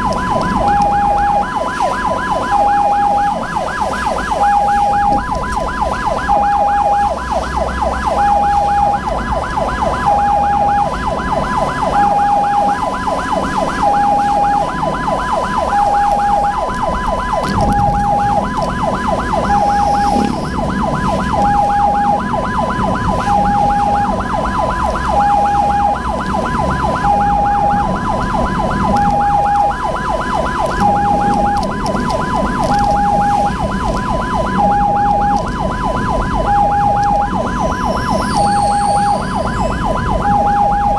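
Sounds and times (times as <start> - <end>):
ambulance siren: 0.0 - 40.9
vehicle engine and road noise: 0.0 - 40.9.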